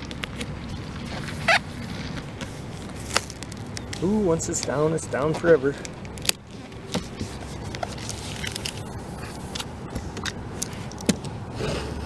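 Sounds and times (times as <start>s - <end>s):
tape clicking and crackling: 0.0s - 11.4s
low steady rumble: 0.0s - 12.0s.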